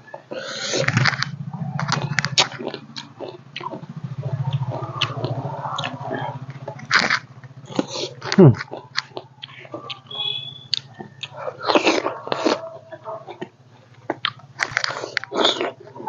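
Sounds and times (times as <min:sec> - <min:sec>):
chewing fruit: 0:00.0 - 0:16.0
low droning hum: 0:00.0 - 0:16.0.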